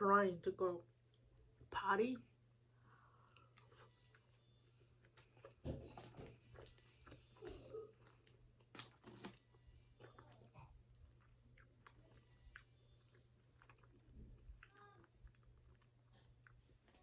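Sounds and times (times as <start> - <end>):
person chewing food: 2.8 - 17.0.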